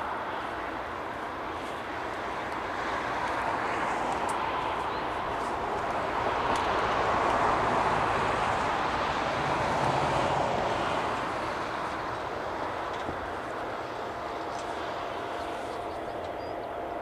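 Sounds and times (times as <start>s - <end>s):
aircraft engine passing: 0.0s - 17.0s.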